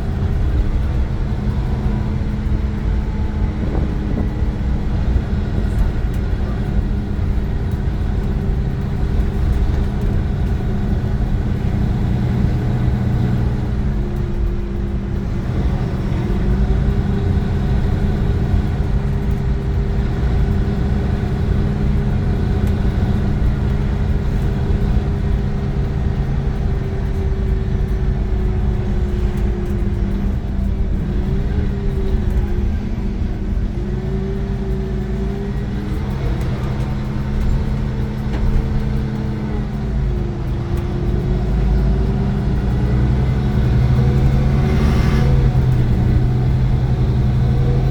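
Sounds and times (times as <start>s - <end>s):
bus engine low drone: 0.0s - 47.9s.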